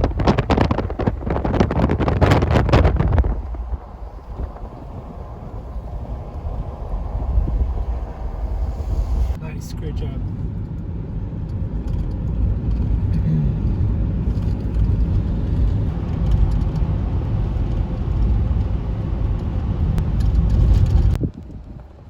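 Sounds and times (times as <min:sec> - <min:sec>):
car driving on highway: 0:00.0 - 0:22.0.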